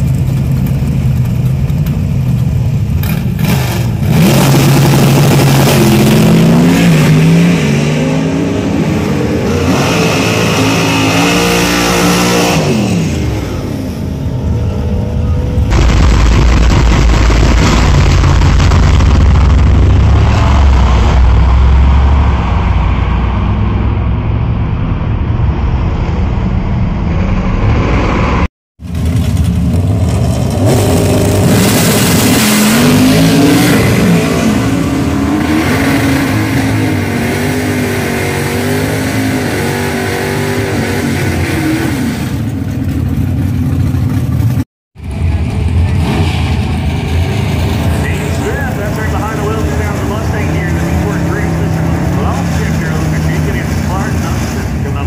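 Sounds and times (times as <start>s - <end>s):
drag race car engine at full throttle: 0.0s - 55.0s.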